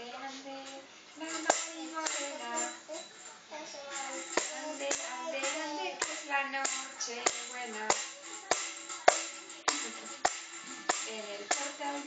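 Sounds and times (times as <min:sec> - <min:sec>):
tambourine slaps with jingle: 0:01.3 - 0:12.0.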